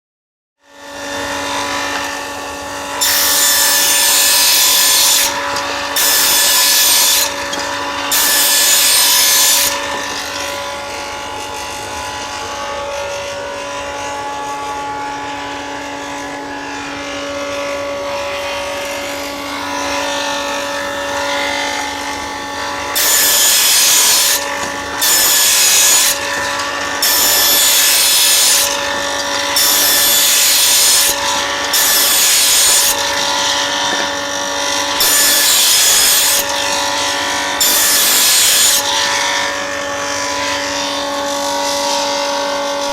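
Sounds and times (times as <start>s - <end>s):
saw rasping through wood: 0.6s - 42.9s
table saw humming: 0.6s - 42.9s.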